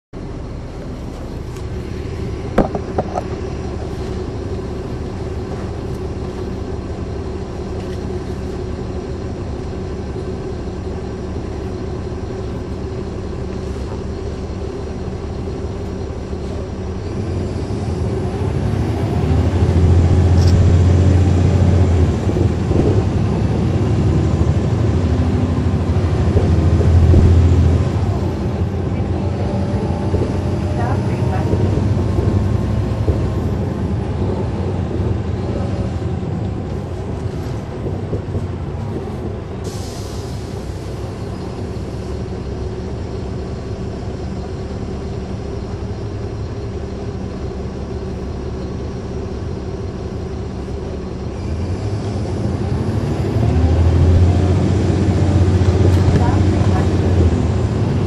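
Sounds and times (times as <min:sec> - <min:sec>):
bus diesel engine humming: 0:00.1 - 0:58.0.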